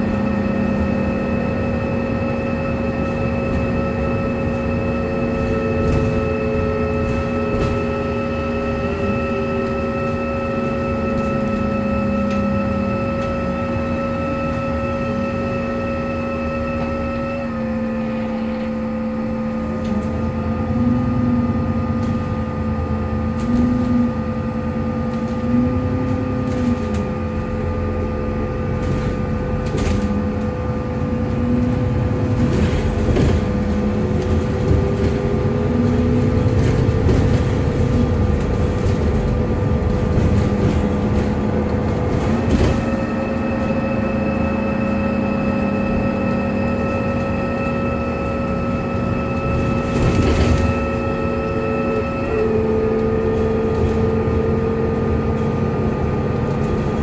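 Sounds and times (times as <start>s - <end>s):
bus motor whirring whine: 0.0s - 57.0s
engine and road rumble: 0.0s - 57.0s.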